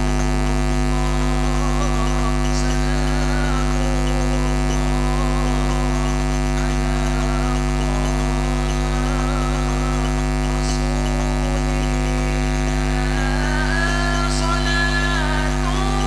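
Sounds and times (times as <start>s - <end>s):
faint wavering voice: 0.0s - 16.0s
loud electrical mains hum: 0.0s - 16.0s.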